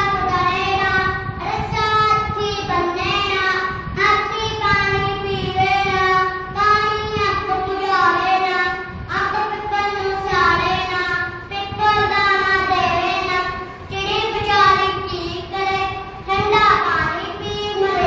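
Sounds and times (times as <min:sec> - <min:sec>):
child singing in a high voice: 0:00.0 - 0:18.0.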